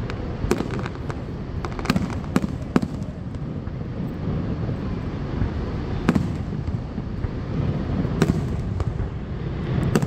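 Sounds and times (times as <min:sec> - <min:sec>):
fireworks booming: 0:00.0 - 0:10.0
low rushing background: 0:00.0 - 0:10.0.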